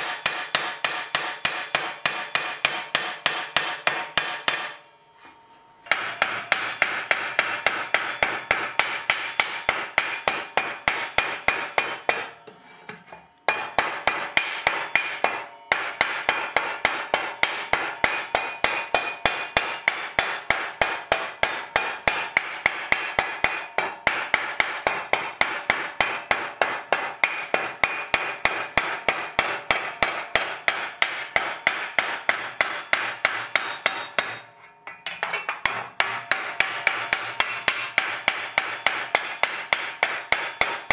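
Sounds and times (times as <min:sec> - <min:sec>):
hammer striking steel plate: 0:00.0 - 0:04.9, 0:05.8 - 0:40.9.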